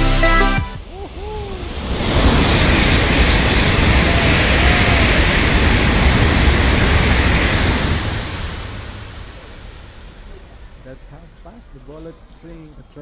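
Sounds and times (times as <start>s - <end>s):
high-speed train passing: 0.8s - 13.0s.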